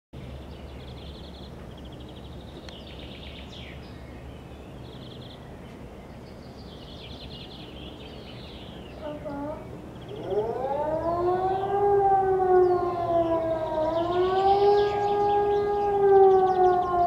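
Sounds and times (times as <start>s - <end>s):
low background rumble: 0.2s - 17.0s
songbirds trilling: 0.2s - 17.0s.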